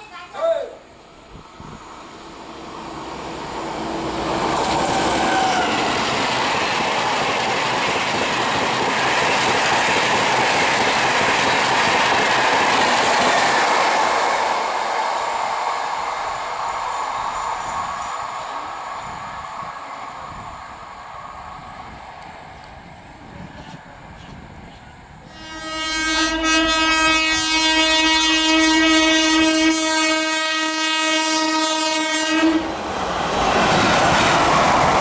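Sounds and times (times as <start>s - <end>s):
train passing at speed: 0.0s - 35.0s.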